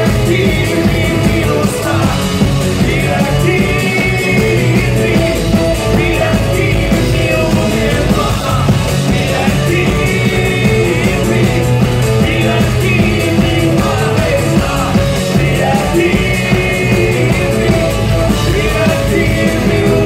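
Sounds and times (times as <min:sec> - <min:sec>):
drum kit beat: 0:00.0 - 0:20.0
electric bass: 0:00.0 - 0:20.0
person singing into microphone: 0:00.0 - 0:20.0.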